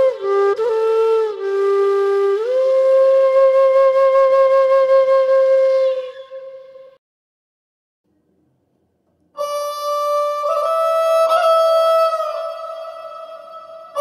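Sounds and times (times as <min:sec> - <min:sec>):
solo flute melody: 0:00.0 - 0:07.0, 0:09.4 - 0:14.0.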